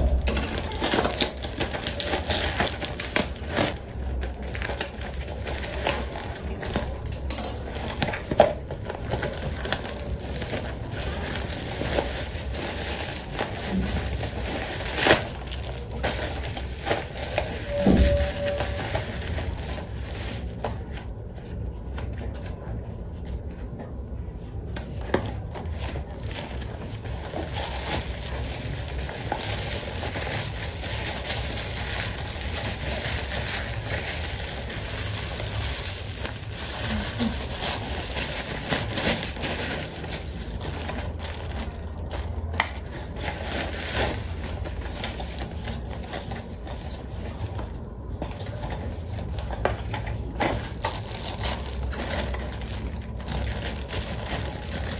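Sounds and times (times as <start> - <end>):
plastic packaging crinkling: 0.0 - 20.9, 25.4 - 54.9.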